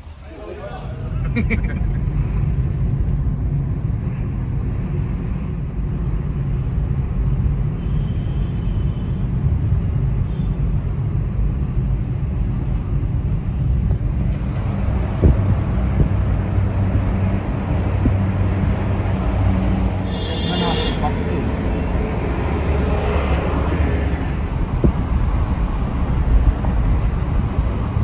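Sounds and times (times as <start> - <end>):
car rumbling in motion: 0.0 - 7.9, 9.2 - 28.0.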